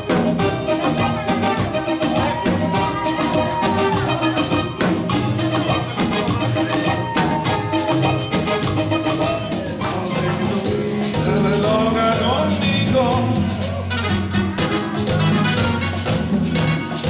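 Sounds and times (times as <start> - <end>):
drum kit and percussion beat: 0.0 - 17.0
live band playing latin dance music: 0.0 - 17.0.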